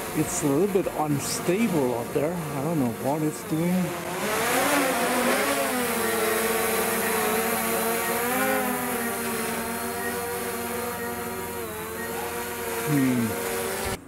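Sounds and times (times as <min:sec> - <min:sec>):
drone propellers buzzing: 0:00.0 - 0:14.0.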